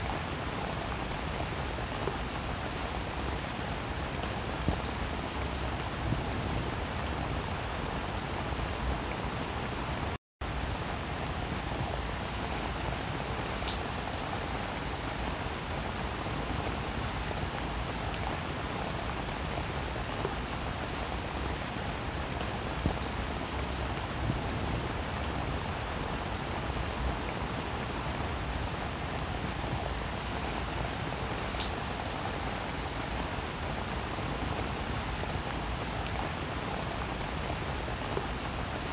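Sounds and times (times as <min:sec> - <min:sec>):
rain-like hiss: 0:00.0 - 0:38.9.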